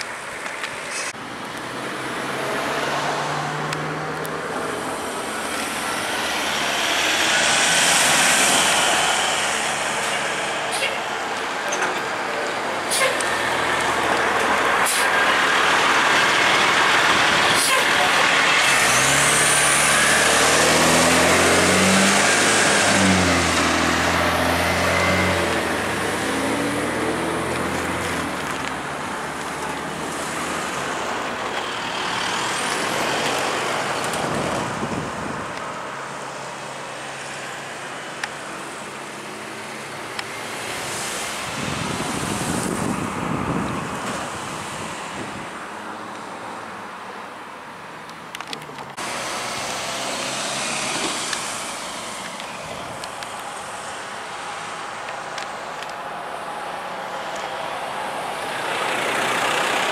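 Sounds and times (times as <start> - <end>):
traffic noise: 0.0 - 59.9
heavy diesel vehicle passing: 0.9 - 47.0, 48.9 - 59.9.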